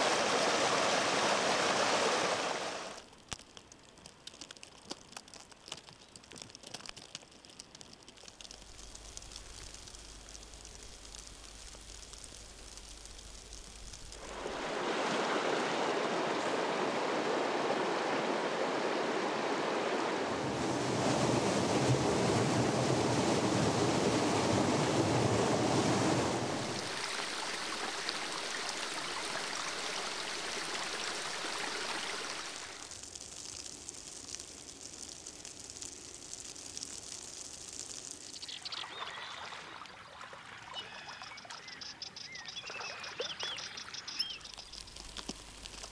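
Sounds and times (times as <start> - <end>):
melt water running: 0.0 - 40.2, 43.3 - 45.9.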